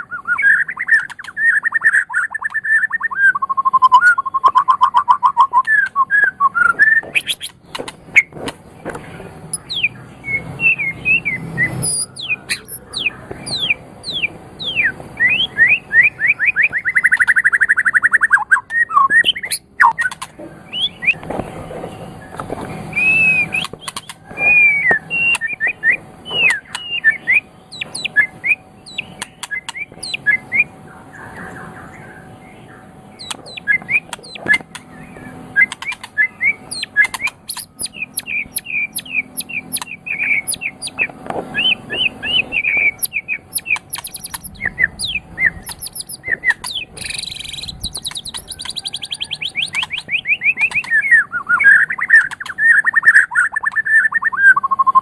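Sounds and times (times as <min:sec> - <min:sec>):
songbird singing whistled notes: 0:00.0 - 0:08.3, 0:09.5 - 0:21.3, 0:22.2 - 0:55.0.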